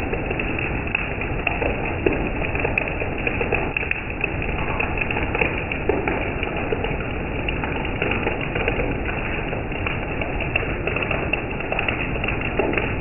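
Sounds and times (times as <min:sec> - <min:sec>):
heavy rain patter: 0:00.0 - 0:13.0.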